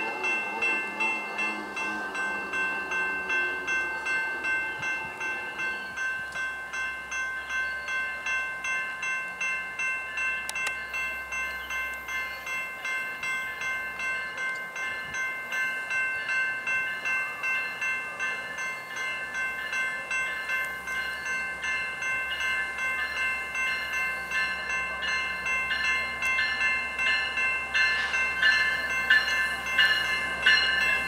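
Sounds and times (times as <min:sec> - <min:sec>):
level crossing bell ringing: 0:00.0 - 0:31.0.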